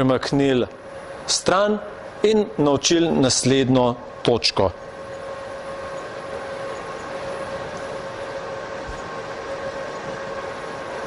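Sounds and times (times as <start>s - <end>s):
low hiss: 0.0s - 11.0s
machine hum with tones: 0.0s - 11.0s.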